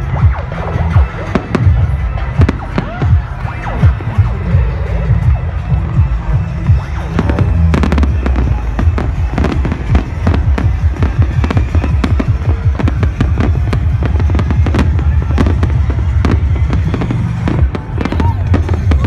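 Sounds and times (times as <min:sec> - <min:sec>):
dance music with heavy bass: 0:00.0 - 0:19.0
fireworks banging and crackling: 0:00.0 - 0:19.0.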